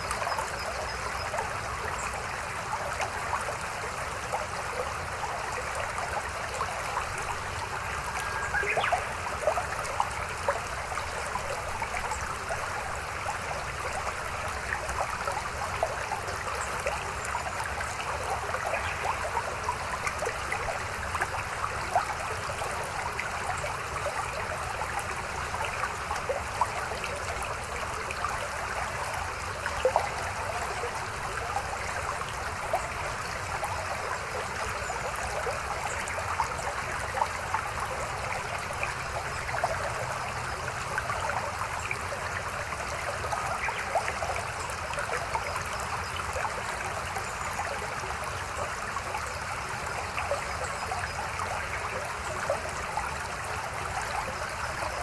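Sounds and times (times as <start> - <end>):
shallow river babbling: 0.0 - 55.0
small water splashes: 0.0 - 55.0.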